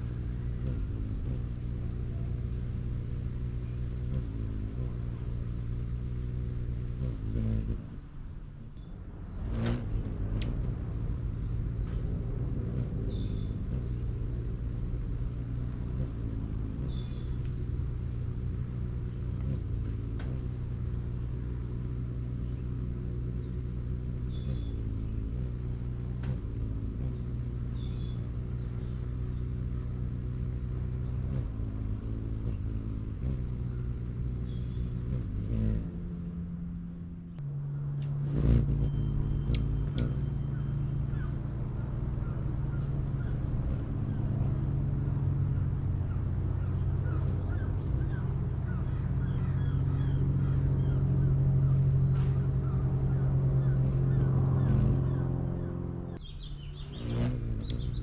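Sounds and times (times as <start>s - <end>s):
hummingbird wings humming: 0.0s - 58.0s.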